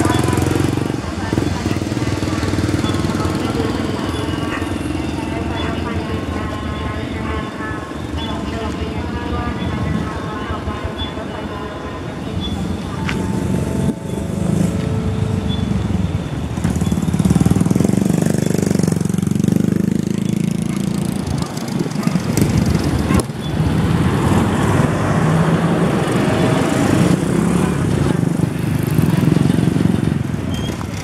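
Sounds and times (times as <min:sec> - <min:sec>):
diesel locomotive engine rumbling: 0:00.0 - 0:31.0.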